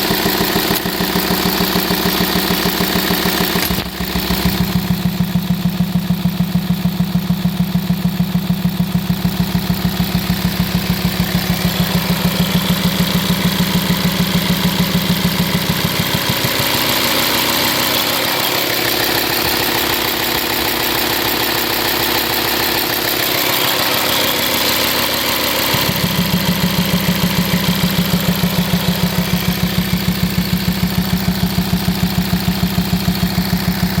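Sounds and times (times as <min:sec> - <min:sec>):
diesel engine idling with pulsing boom: 0:00.0 - 0:34.0.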